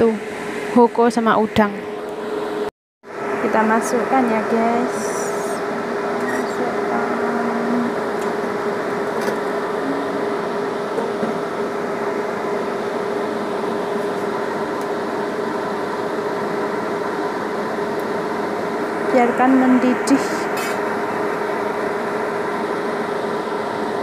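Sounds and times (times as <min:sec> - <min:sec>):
appliance humming: 0:00.0 - 0:24.0.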